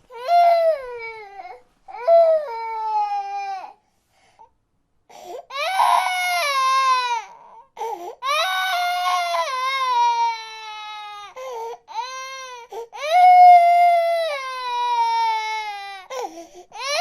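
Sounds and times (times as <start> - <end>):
baby crying: 0.1 - 3.8, 5.5 - 17.0.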